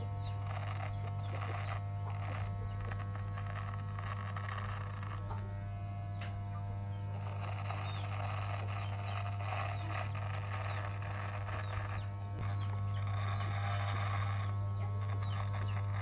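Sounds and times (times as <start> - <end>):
electric hair clipper buzzing: 0.0 - 16.0
rasp of cut hair: 0.0 - 16.0.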